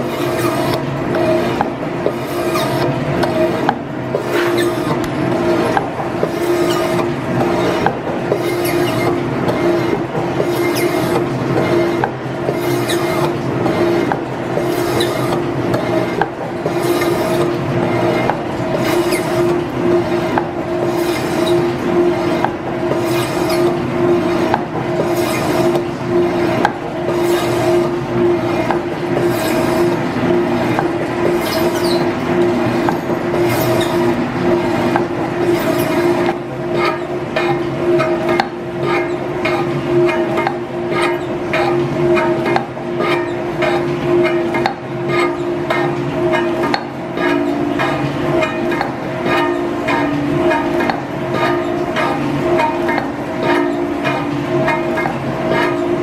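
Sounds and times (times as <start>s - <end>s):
metal shaper humming: 0.0s - 56.0s.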